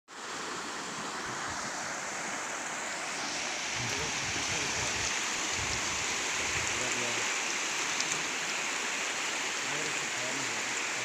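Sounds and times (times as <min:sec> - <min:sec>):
floodwater rushing: 0:00.1 - 0:11.0.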